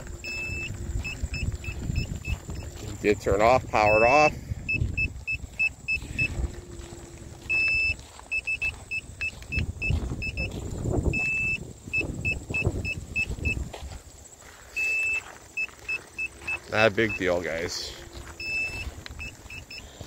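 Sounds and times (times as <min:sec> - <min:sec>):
electric scooter beeping: 0:00.0 - 0:13.7, 0:14.7 - 0:20.0
wind noise: 0:00.0 - 0:20.0.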